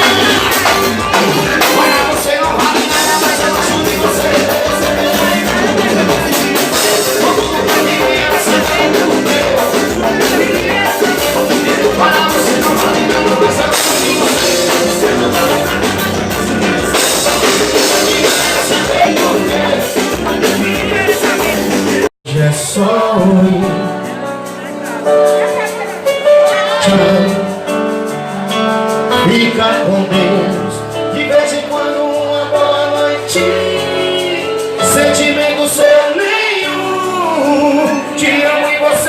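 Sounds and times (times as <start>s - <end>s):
live band music: 0.0s - 39.0s.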